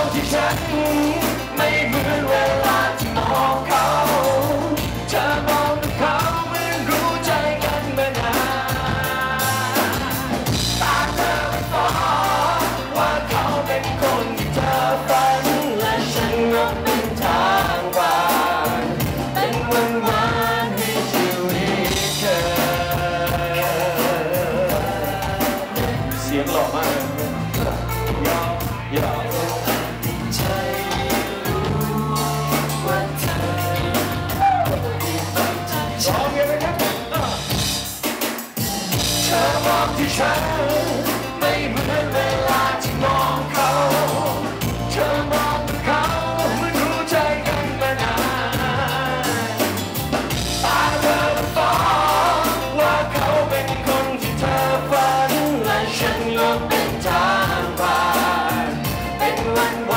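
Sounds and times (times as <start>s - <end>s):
man singing into microphone: 0.0s - 37.6s, 38.9s - 49.8s, 50.4s - 59.9s
repeating bass line: 0.0s - 38.0s, 38.8s - 59.9s
drums: 0.0s - 59.9s.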